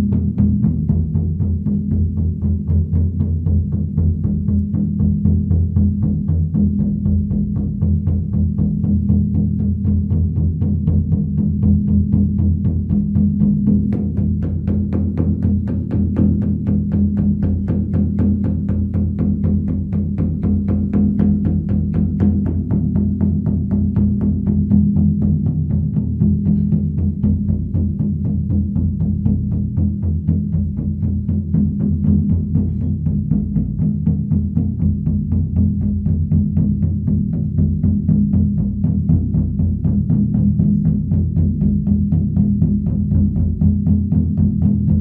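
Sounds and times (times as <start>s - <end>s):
frame drum beaten rapidly: 0.0s - 45.0s.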